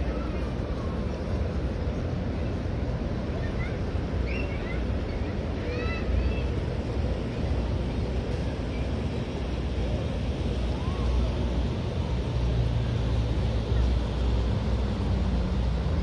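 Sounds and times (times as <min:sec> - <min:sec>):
distant engine noise: 0:00.0 - 0:16.0.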